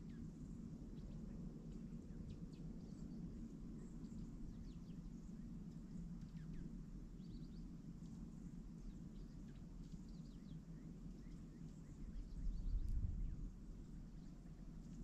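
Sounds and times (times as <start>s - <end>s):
low outdoor rumble: 0.0s - 15.0s
songbirds chirping: 0.0s - 15.0s.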